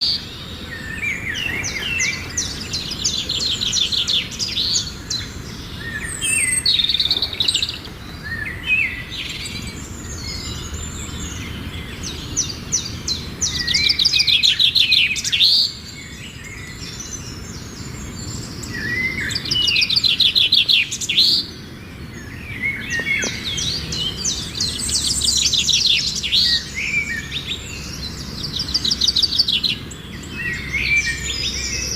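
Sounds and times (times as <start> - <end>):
songbirds trilling and chirping: 0.0 - 31.9.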